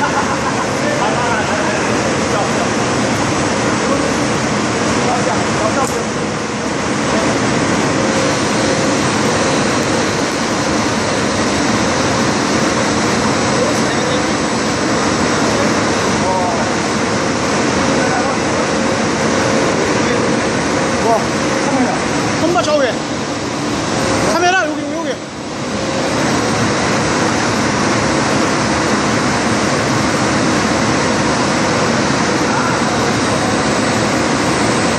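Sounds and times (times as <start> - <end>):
printing press rushing noise: 0.0 - 34.9.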